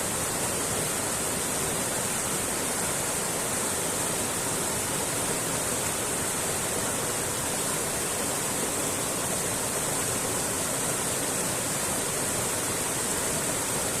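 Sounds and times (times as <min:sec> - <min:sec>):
creek running over rocks: 0:00.0 - 0:14.0.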